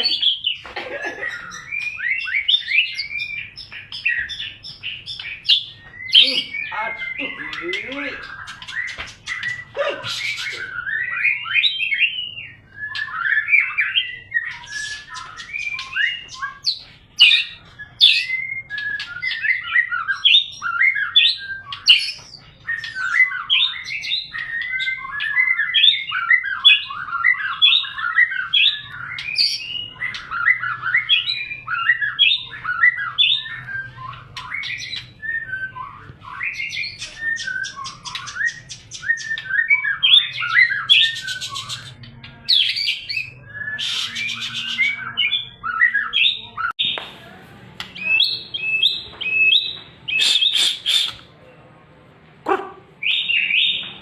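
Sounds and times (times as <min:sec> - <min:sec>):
bird singing whistled phrases: 0:01.3 - 0:47.0, 0:48.0 - 0:51.3.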